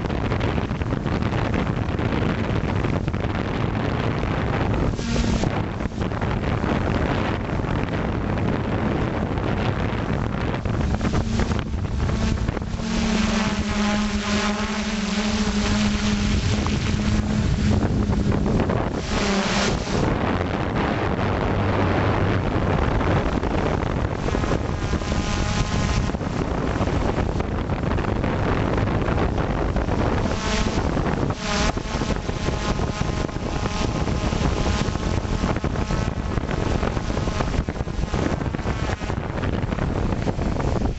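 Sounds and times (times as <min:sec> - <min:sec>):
drone motors and propellers: 0:00.0 - 0:40.9
wind rush over microphone: 0:00.0 - 0:40.9.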